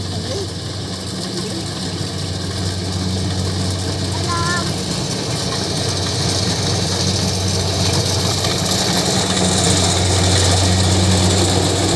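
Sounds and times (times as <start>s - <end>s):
harvester engine humming: 0.0s - 11.9s.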